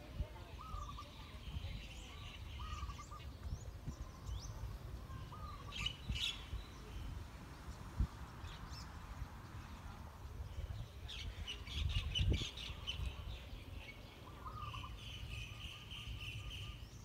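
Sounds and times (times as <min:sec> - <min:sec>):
wind rumble on microphone: 0:00.0 - 0:13.7.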